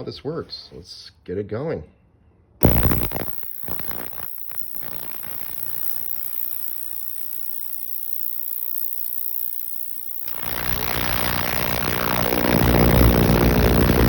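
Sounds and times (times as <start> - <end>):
ultrasonic cleaner buzzing hiss: 2.6 - 14.0.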